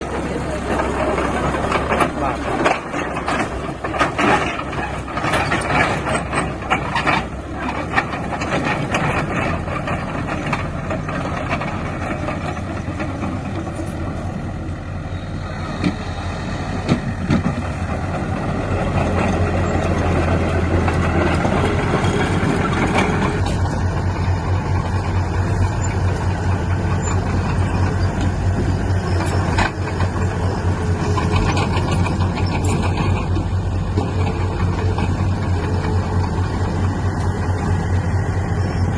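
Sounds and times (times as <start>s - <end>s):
heavy diesel engine drone: 0.0s - 38.9s.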